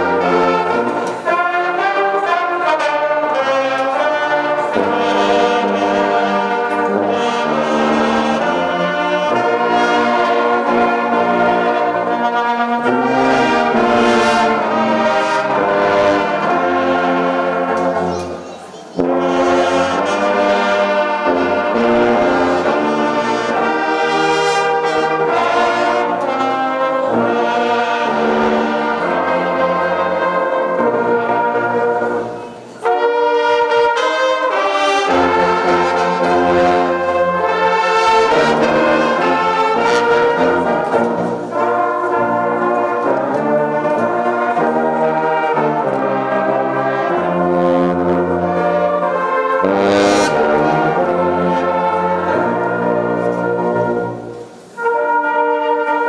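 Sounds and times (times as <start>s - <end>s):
brass band playing chords: 0.0s - 56.0s.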